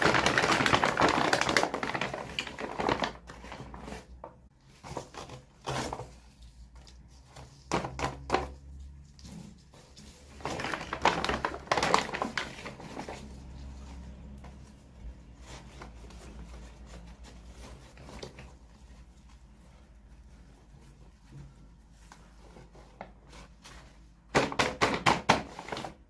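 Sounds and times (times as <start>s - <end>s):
packaging rustling and crackling: 0.0s - 8.6s, 9.2s - 24.0s.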